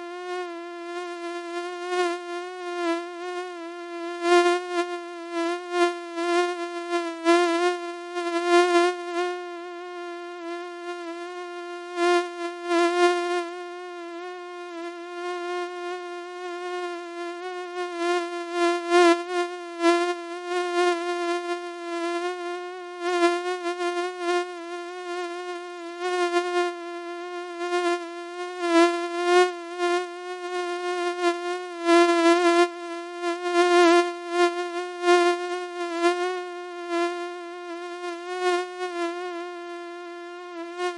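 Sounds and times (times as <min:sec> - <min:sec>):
mosquito whine: 0:00.0 - 0:40.9.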